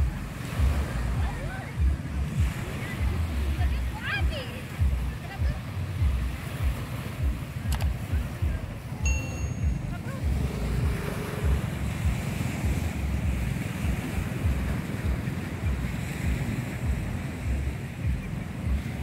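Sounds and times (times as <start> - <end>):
waves on pebbly shore: 0.0 - 19.0
wind buffeting microphone: 0.0 - 19.0.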